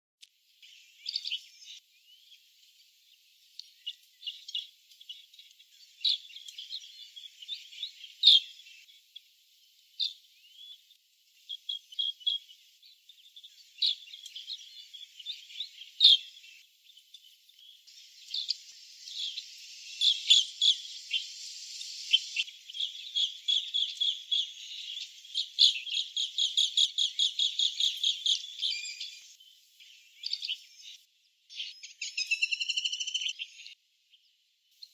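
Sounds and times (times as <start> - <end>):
birds chirping and trilling: 0.5 - 34.9.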